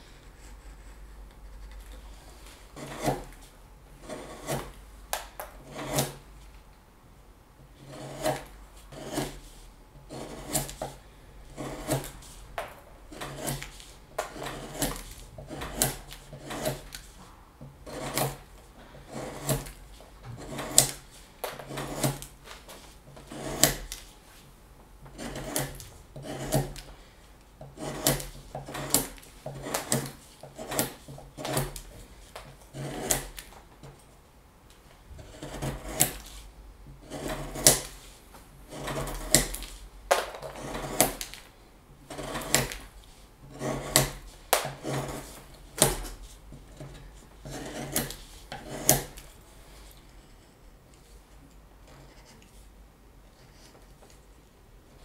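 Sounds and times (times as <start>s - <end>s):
knife carving wood: 0.0s - 6.2s, 7.8s - 24.1s, 25.1s - 27.0s, 27.6s - 34.1s, 35.2s - 50.7s.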